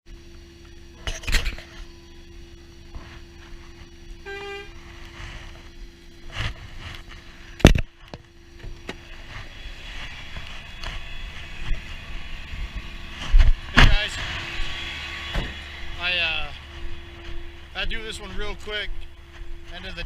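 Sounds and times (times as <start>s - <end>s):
truck engine idling: 0.1s - 20.0s.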